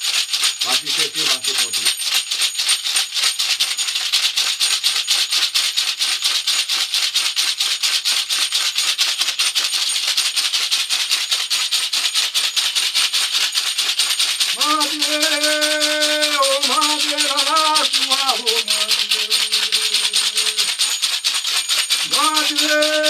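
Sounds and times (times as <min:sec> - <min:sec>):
rattle shaken rhythmically: 0:00.0 - 0:23.0.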